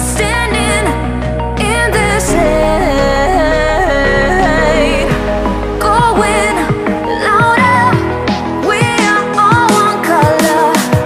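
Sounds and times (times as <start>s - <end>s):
electronic instrumental music: 0.0s - 11.0s.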